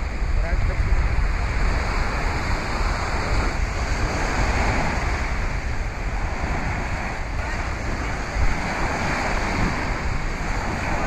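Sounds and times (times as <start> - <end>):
small waves breaking on sand: 0.0 - 11.0
wind buffeting microphone: 0.0 - 11.0.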